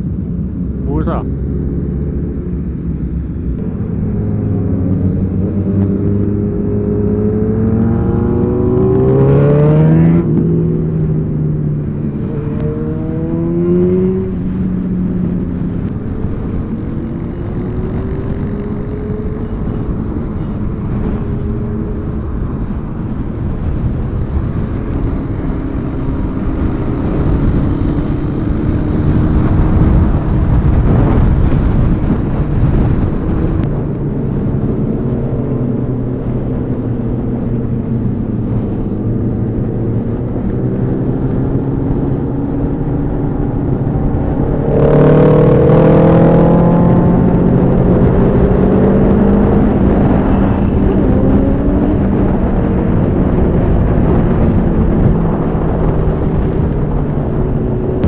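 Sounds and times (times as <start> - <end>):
wind on microphone: 0.0 - 58.0
motorcycle engine revving: 0.6 - 58.0.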